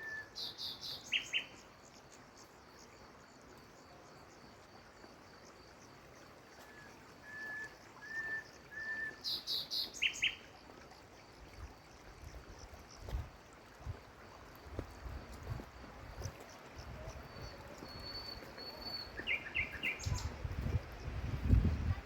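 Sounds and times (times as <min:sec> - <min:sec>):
river-like hiss: 0:00.0 - 0:22.0.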